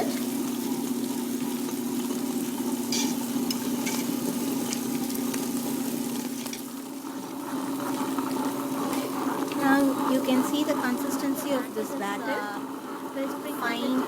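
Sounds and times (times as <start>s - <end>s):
electric grinder humming: 0.0s - 14.0s
wet churning batter: 0.0s - 14.0s.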